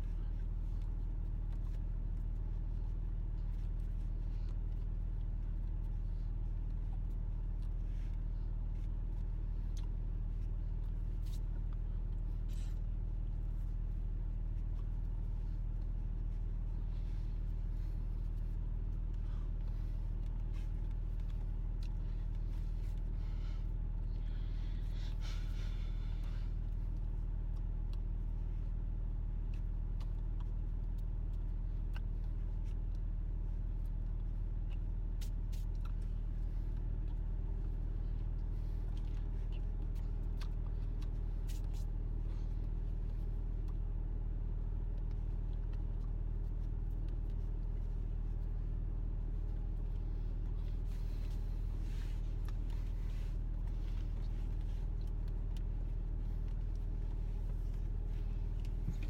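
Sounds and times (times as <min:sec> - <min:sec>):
car engine and road drone: 0:00.0 - 0:59.0
faint higher hum: 0:00.0 - 0:59.0.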